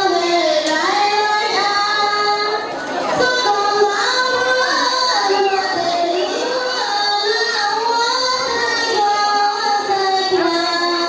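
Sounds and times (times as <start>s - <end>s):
high voice singing: 0.0s - 11.0s.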